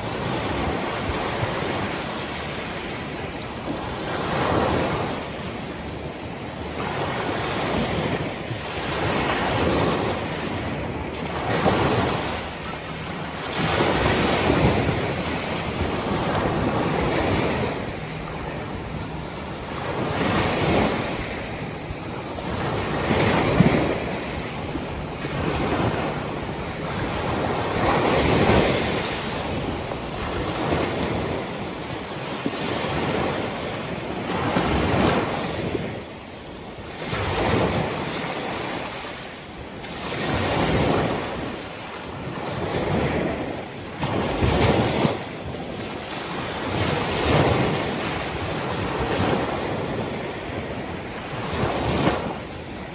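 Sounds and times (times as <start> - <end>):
ocean waves breaking on beach: 0.0 - 52.9.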